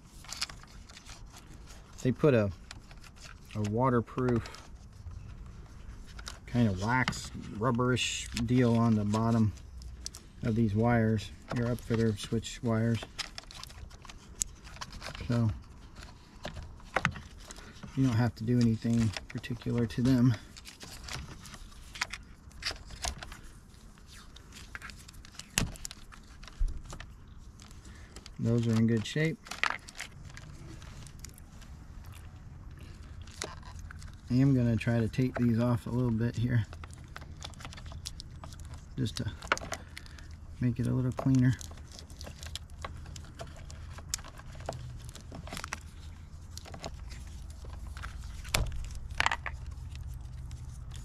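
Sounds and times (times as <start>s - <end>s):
tape peeling crackles: 0.0s - 51.0s.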